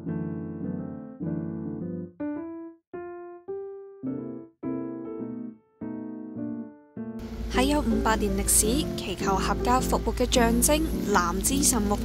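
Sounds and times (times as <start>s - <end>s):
piano-like keyboard music: 0.0s - 12.0s.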